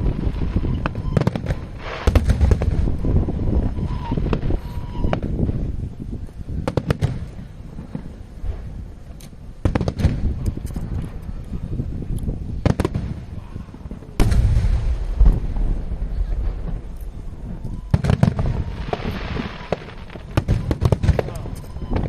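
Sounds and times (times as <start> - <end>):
firework crackling: 0.0 - 22.0
low rolling rumble: 0.0 - 22.0.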